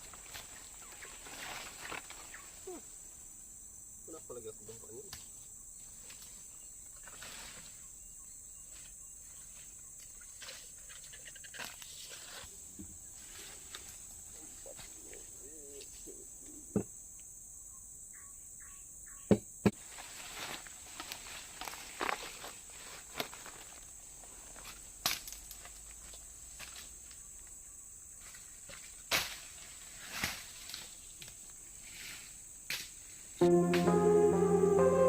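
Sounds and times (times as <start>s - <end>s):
insect chorus: 0.0s - 33.4s.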